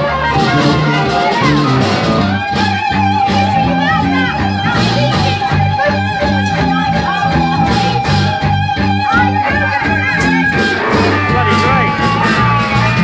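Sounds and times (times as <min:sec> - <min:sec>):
electric bass: 0:00.0 - 0:13.0
guitar playing bent notes: 0:00.0 - 0:13.0.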